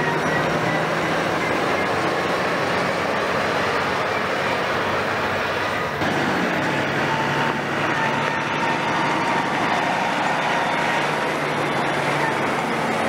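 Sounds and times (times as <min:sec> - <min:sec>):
diesel machinery engine drone: 0:00.0 - 0:13.0.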